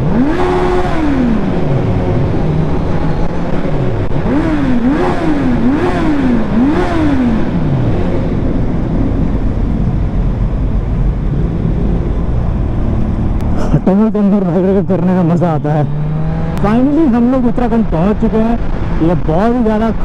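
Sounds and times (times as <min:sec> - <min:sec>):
motorcycle engine revving: 0:00.0 - 0:13.6, 0:14.3 - 0:20.0
wind and road noise: 0:00.0 - 0:20.0.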